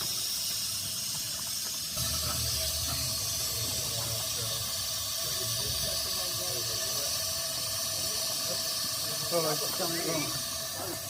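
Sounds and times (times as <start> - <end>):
steam hissing: 0.0 - 11.0.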